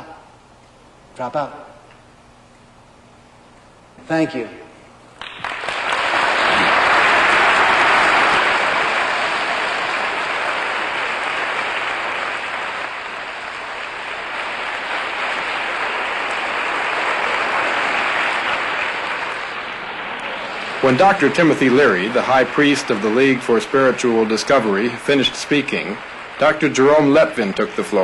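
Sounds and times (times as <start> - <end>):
large audience applauding: 5.2 - 28.0.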